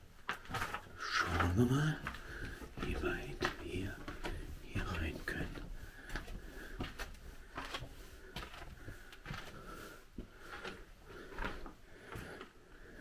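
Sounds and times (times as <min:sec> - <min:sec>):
slow footsteps on hard floor: 0:00.0 - 0:13.0.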